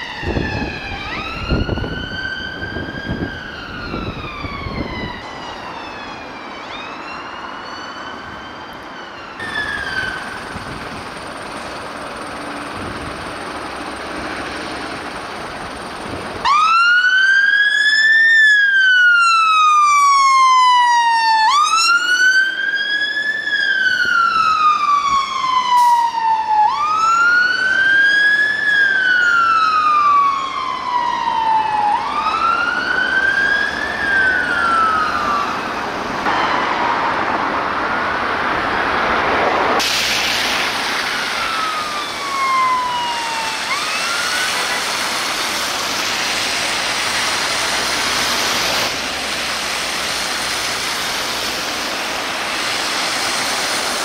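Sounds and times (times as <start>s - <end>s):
fire engine siren wailing: 0.0s - 54.0s
road and engine noise: 0.0s - 54.0s.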